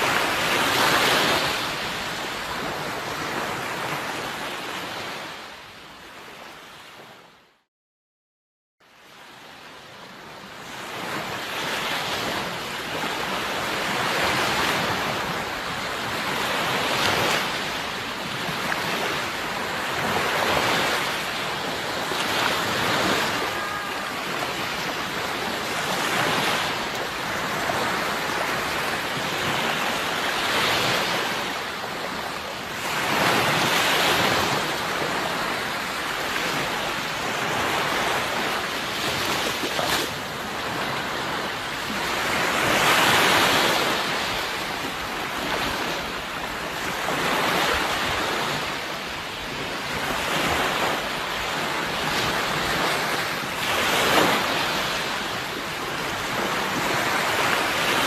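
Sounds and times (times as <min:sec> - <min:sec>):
sea waves breaking on shore: 0:00.0 - 0:07.5, 0:08.8 - 0:58.0.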